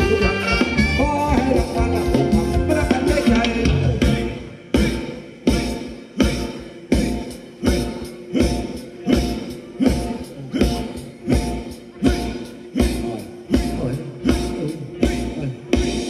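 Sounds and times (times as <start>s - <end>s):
heavy drum beat: 0.0s - 16.0s
live band playing dance music: 0.0s - 16.0s.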